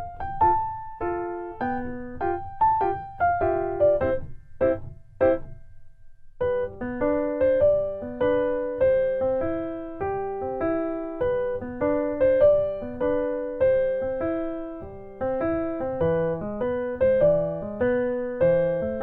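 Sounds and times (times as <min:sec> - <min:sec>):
light piano tune: 0:00.0 - 0:19.0.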